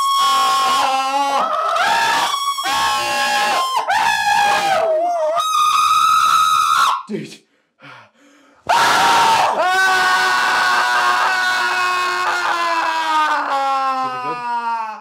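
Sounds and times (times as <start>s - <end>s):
men screaming: 0.0s - 6.9s, 8.7s - 15.0s.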